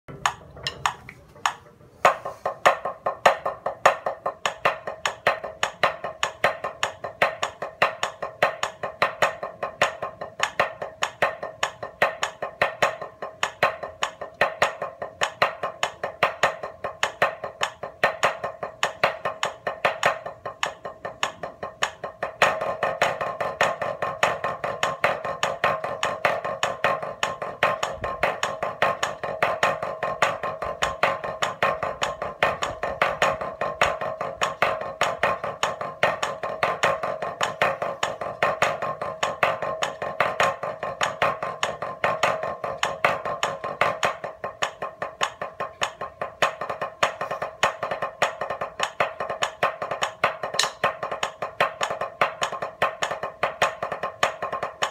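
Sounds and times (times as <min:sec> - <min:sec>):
drumsticks on practice pad: 0:00.1 - 0:54.9.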